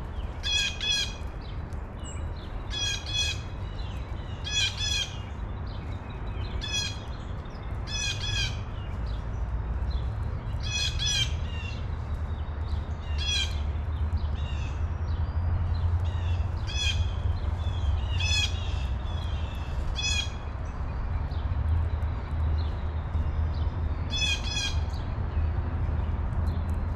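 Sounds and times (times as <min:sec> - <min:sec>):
steady low rumble: 0:05.3 - 0:26.9.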